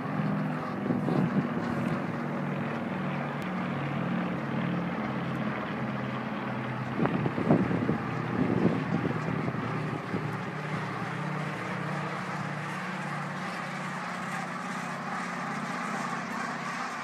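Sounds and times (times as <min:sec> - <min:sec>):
flock of geese calling: 0:00.0 - 0:17.0.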